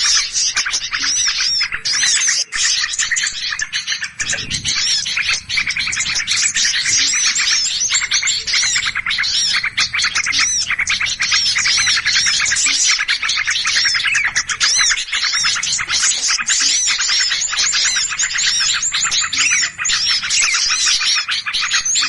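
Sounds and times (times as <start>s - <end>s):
small songbirds chirping: 0.0s - 22.0s.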